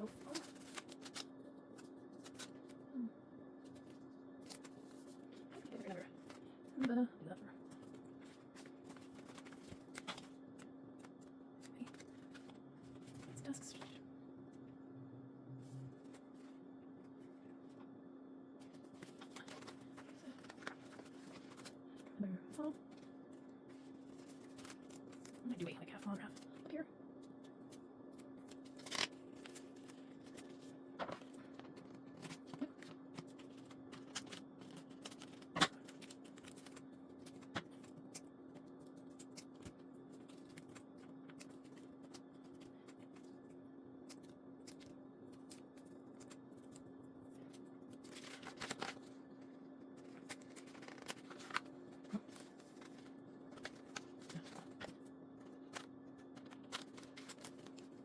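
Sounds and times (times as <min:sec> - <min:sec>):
paper stickers rustling and peeling: 0:00.0 - 0:02.8, 0:03.6 - 0:14.0, 0:18.6 - 0:58.0
steady low hum: 0:00.0 - 0:58.0.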